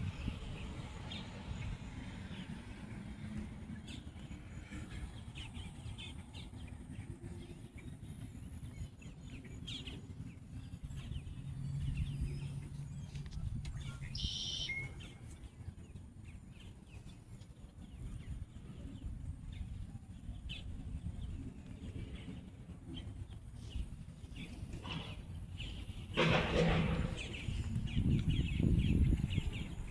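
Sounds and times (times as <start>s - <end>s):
birds chirping: 0.0s - 29.9s
steady low rumble: 0.0s - 29.9s.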